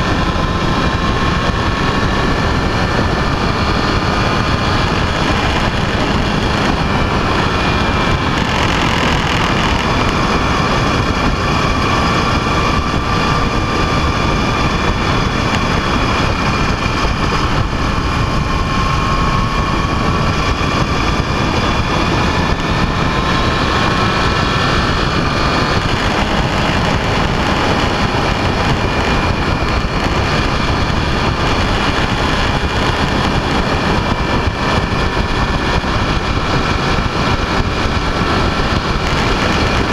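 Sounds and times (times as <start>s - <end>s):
road noise: 0.0s - 39.9s
vehicle engine whine: 0.0s - 39.9s
wind noise: 0.0s - 39.9s.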